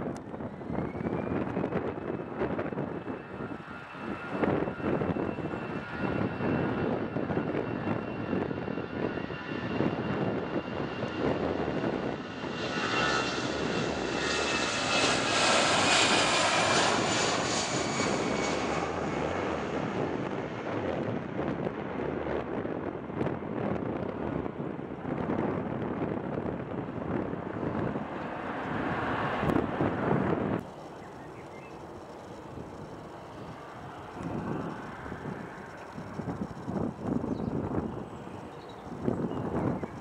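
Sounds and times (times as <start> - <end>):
high jet whine: 0.0 - 21.8, 26.4 - 40.0
jet engine rumble: 0.0 - 40.0.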